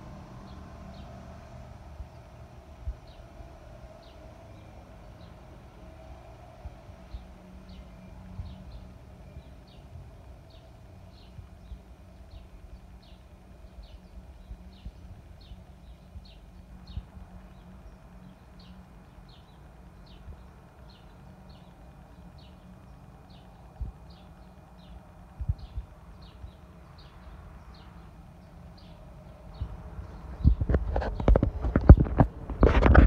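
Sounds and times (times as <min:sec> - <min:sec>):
low rumbling noise: 0:00.0 - 0:33.0.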